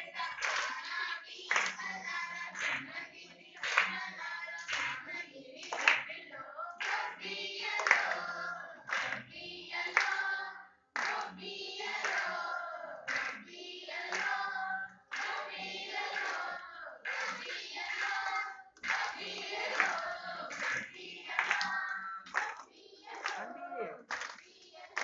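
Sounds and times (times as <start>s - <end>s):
hands clapping: 0.0s - 10.3s, 11.0s - 25.0s
women singing folk song: 0.0s - 23.5s, 24.2s - 25.0s.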